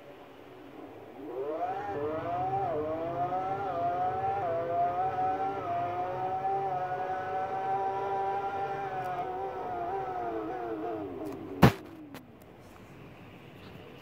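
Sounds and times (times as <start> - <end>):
car engine accelerating: 0.0 - 13.3.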